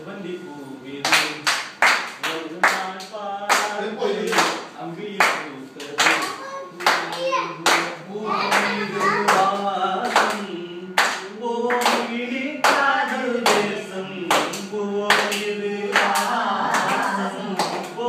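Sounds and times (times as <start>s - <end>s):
people singing: 0.0s - 18.0s
group clapping in time: 1.0s - 7.9s, 8.5s - 18.0s.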